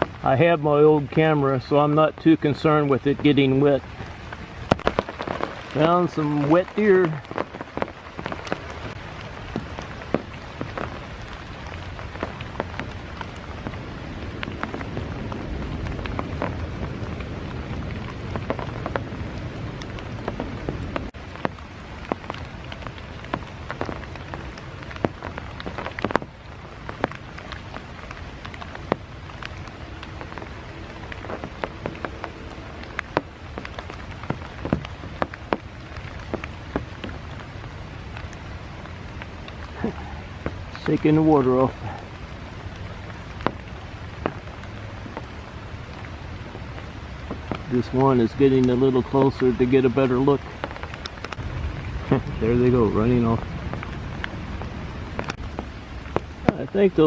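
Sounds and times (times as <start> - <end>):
heavy rain falling: 0.0 - 57.0
raindrops tapping near microphone: 0.0 - 57.0
low rumble: 7.2 - 57.0.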